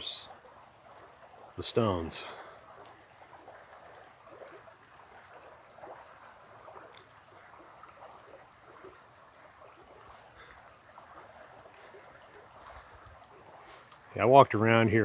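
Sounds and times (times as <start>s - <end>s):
creek rushing: 0.0s - 15.0s.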